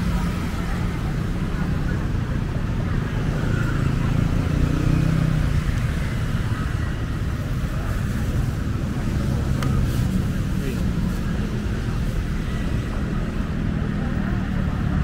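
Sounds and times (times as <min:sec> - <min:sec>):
faint chatter of people: 0:00.0 - 0:15.0
low rumble of traffic: 0:00.0 - 0:15.0.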